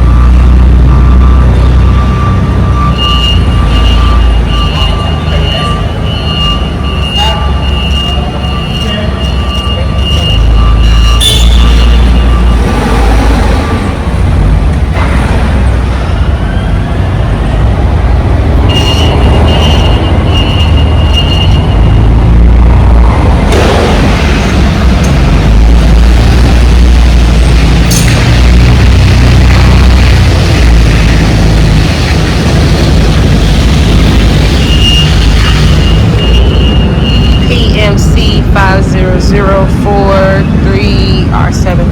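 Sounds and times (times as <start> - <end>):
heavy vehicle rumbling: 0.0 - 41.9.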